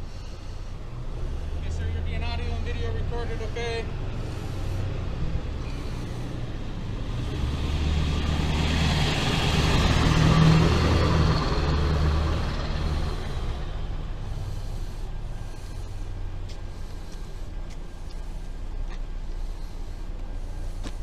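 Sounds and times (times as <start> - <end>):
low engine hum: 0.0 - 21.0
vehicle passing: 0.0 - 21.0.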